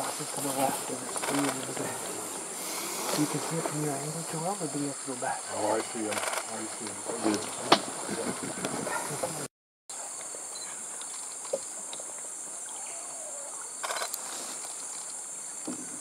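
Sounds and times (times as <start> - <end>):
steady high-pitched rainforest hiss: 0.0 - 8.2, 8.9 - 16.0.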